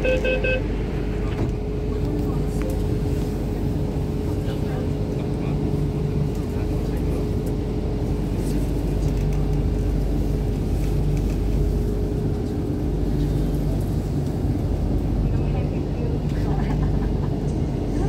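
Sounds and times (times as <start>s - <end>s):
traction equipment hum: 0.0s - 18.0s
train wheels rumbling on rail: 0.0s - 18.0s.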